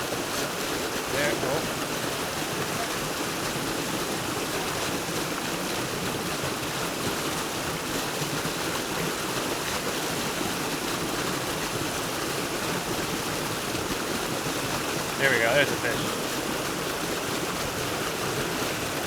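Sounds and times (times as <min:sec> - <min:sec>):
creek running over rocks: 0:00.0 - 0:19.0.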